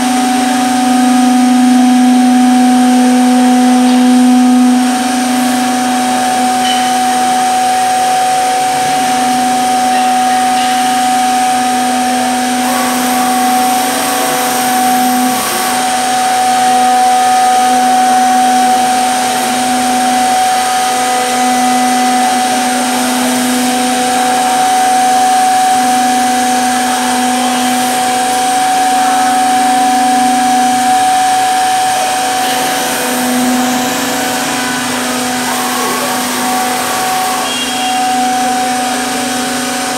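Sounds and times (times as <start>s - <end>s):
mortising machine whine: 0.0s - 39.9s.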